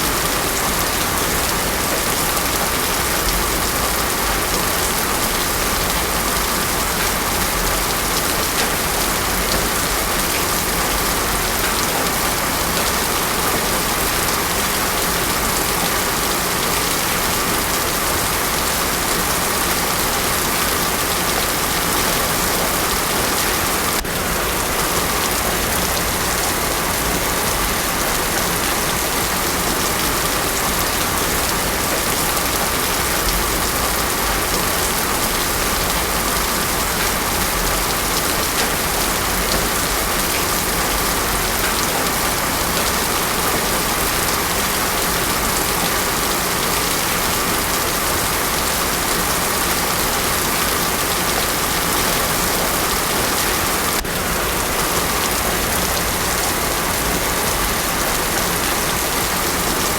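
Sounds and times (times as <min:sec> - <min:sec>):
heavy rain on a road: 0:00.0 - 0:59.9.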